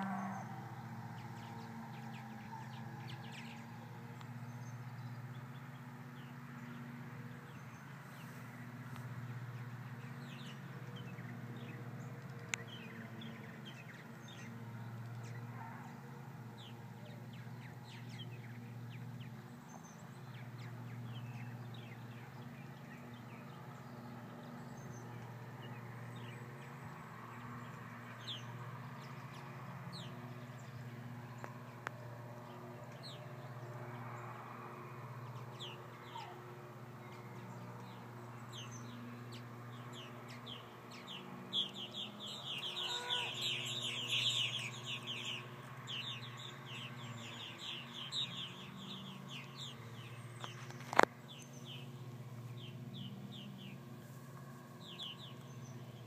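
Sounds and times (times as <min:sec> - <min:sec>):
birds chirping in flight: 0:00.0 - 0:53.8.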